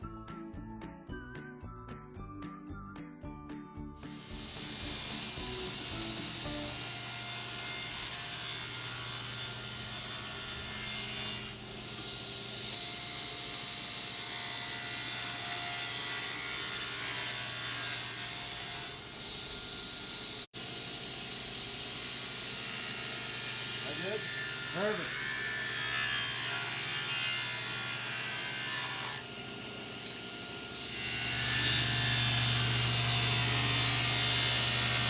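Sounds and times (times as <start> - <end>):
saw rasping through wood: 4.0 - 20.4, 21.2 - 35.0.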